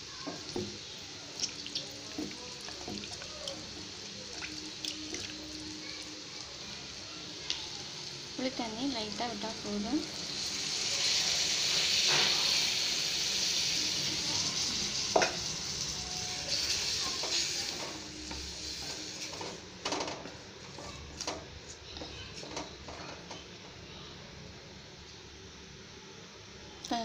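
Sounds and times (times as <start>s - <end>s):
liquid sizzling in hot oil: 0.0s - 23.0s.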